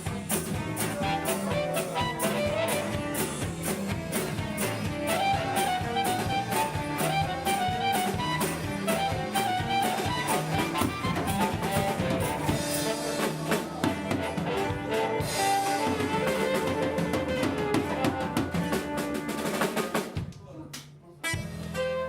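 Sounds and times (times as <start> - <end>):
live band playing: 0.0 - 20.3, 21.2 - 22.0
drum kit beat: 0.0 - 22.0.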